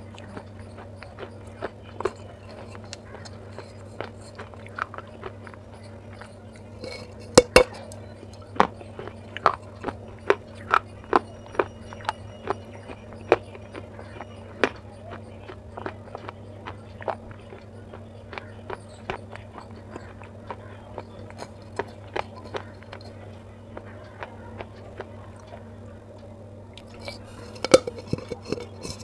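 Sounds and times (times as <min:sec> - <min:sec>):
clay being chewed: 0:00.0 - 0:29.0.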